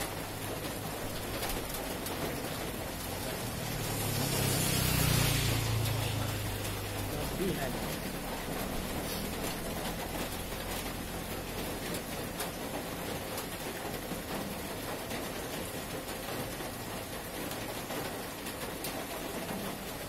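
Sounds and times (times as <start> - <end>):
rain on a roof: 0.0 - 20.0.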